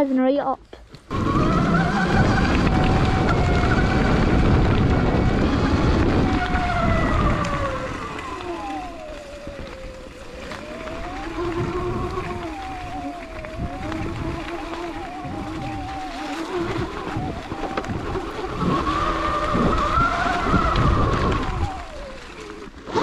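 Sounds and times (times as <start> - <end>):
electric dirt bike motor whining: 1.1 - 23.0
heavy wind noise: 1.1 - 23.0.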